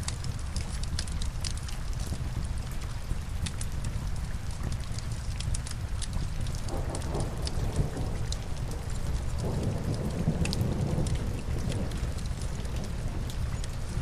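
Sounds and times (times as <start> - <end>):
fire crackles: 0.0 - 14.0
steady rain: 0.0 - 14.0.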